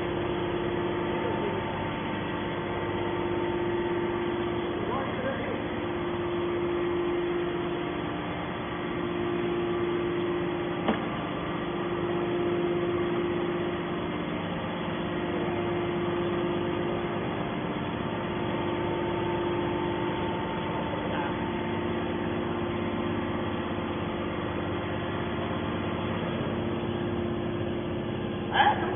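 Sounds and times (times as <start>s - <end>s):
hydraulic baler humming: 0.0s - 28.9s.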